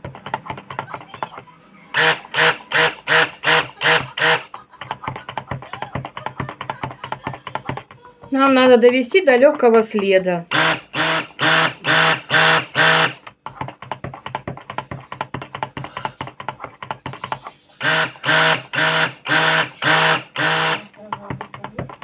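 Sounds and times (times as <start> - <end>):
stick blender pulsing: 0.0 - 8.8, 10.0 - 22.0.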